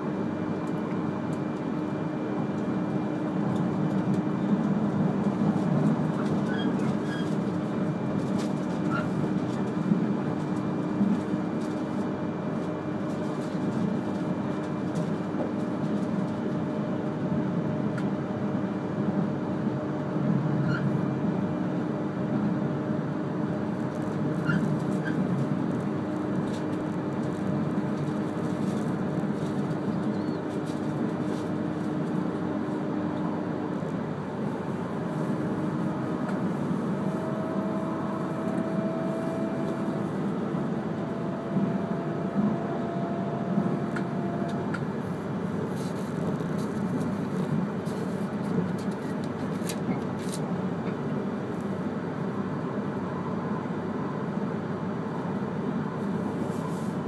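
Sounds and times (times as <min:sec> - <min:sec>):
train wheels rumbling on rail: 0:00.0 - 0:53.0
steady train hum: 0:00.0 - 0:57.0.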